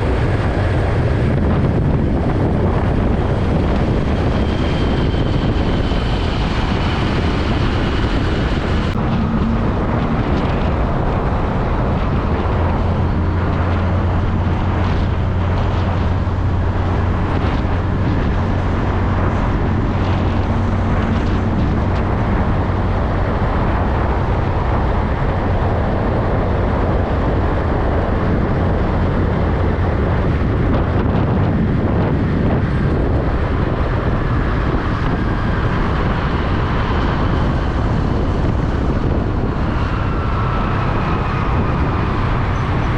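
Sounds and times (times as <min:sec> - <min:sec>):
diesel truck engine rumble: 0:00.0 - 0:42.9
road and tyre noise: 0:00.0 - 0:42.9.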